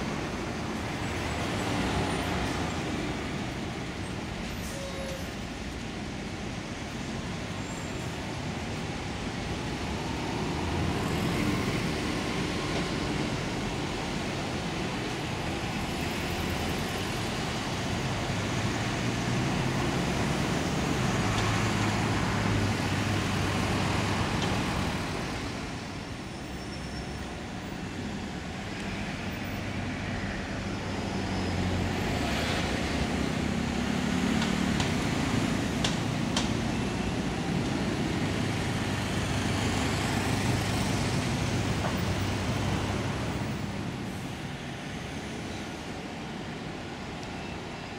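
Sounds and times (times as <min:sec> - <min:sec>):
road traffic engines: 0:00.0 - 0:47.9.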